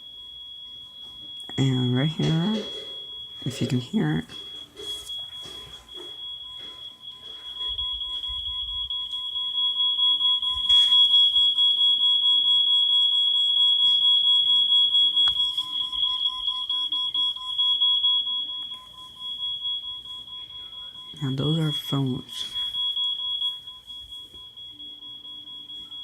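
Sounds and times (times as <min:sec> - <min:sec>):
smoke alarm tone: 0:00.0 - 0:26.0.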